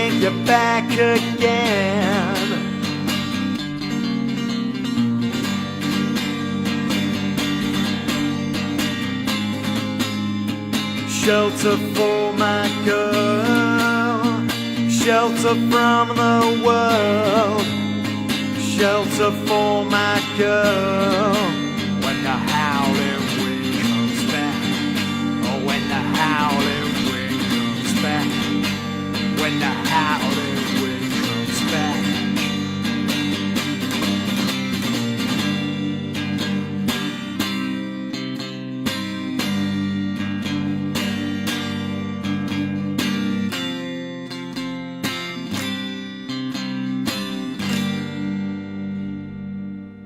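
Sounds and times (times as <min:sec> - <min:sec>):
strummed acoustic guitar: 0:00.0 - 0:50.0.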